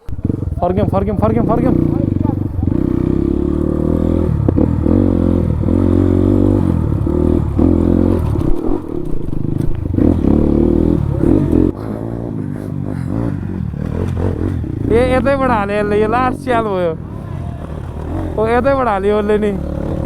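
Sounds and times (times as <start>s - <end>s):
bike clattering over bumps: 0.0s - 11.8s, 12.9s - 20.0s
motorcycle engine revving: 0.0s - 20.0s.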